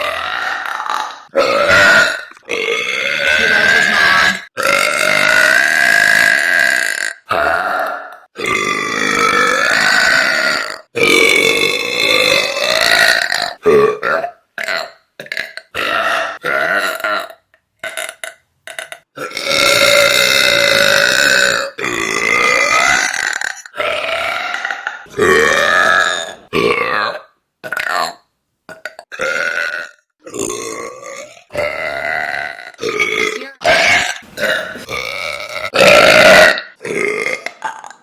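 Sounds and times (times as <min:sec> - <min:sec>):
woman burping loudly: 0:00.0 - 0:24.4, 0:28.7 - 0:38.0.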